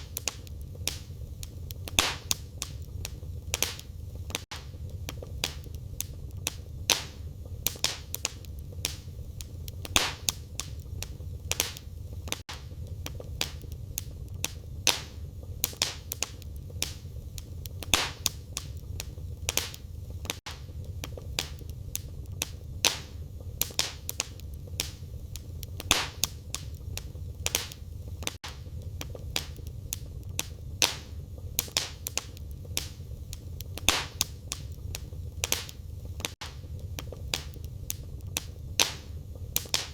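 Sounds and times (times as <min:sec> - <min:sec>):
fire flames rumbling: 0:00.0 - 0:39.9
firewood crackling and popping: 0:00.0 - 0:39.9.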